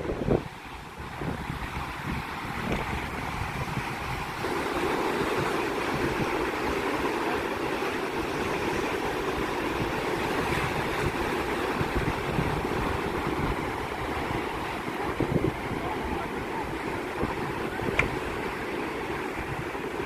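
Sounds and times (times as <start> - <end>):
waves breaking: 0.0 - 20.0
wind on microphone: 0.0 - 20.0.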